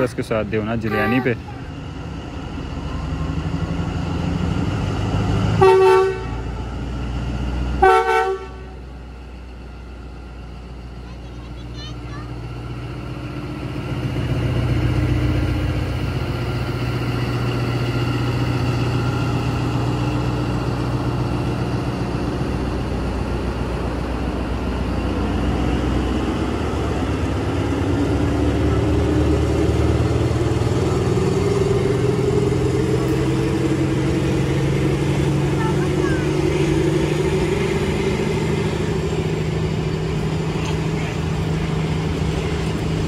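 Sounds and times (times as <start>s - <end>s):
diesel locomotive engine droning: 0.0s - 43.0s.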